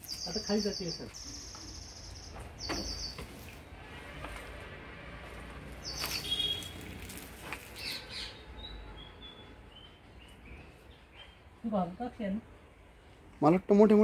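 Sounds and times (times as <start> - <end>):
small birds chirping: 0.0 - 4.0, 5.5 - 13.1.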